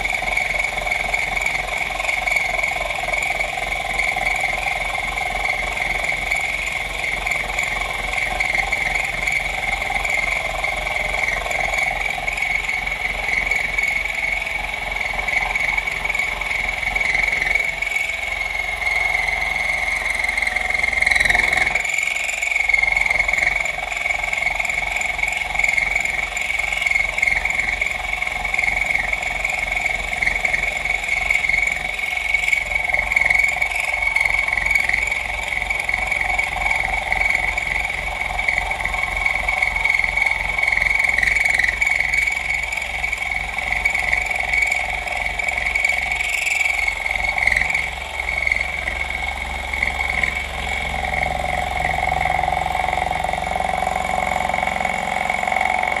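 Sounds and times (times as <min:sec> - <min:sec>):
milling machine whine: 0:00.0 - 0:56.0.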